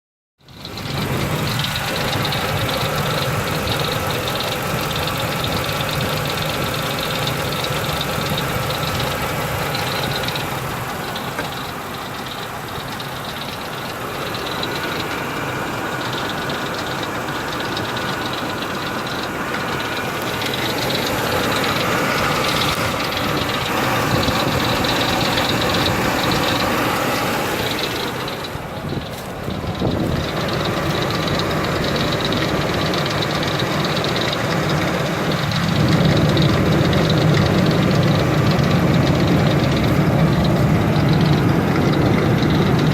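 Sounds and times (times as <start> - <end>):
car engine running: 0.4 - 42.9
engine ticking: 0.4 - 42.9.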